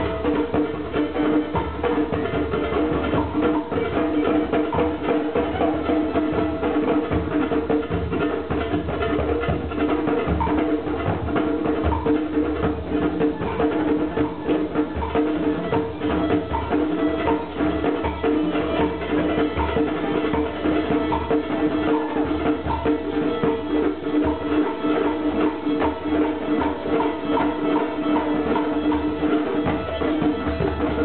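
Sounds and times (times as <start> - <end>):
busy percussion strikes: 0.0 - 31.0.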